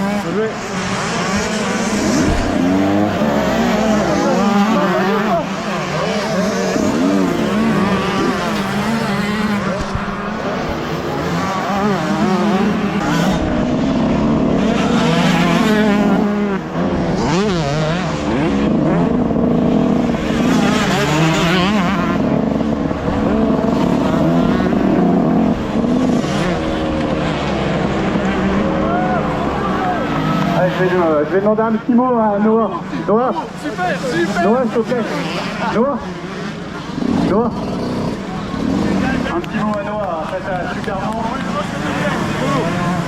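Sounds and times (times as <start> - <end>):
motorcycle engines revving: 0.0 - 43.0.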